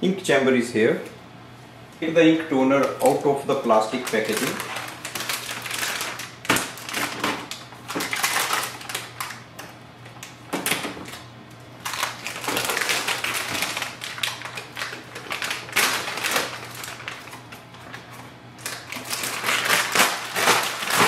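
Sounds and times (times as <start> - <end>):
foil bag crinkling: 2.7 - 21.0.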